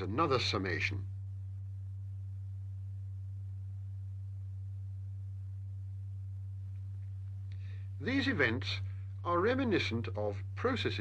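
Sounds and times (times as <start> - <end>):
low pure sine tone: 0.0 - 11.0.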